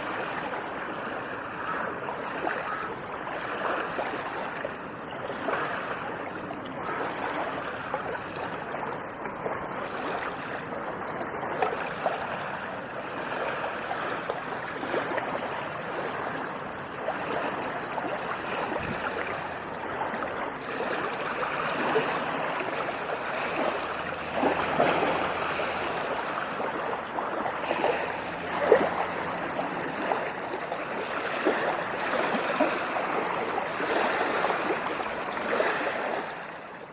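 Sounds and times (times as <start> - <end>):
water lapping and splashing: 0.0 - 36.9.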